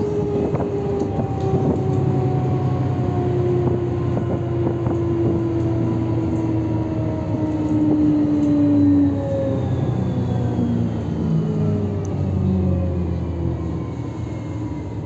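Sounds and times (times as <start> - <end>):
bus diesel engine droning: 0.0 - 15.0
drivetrain whine: 0.0 - 15.0.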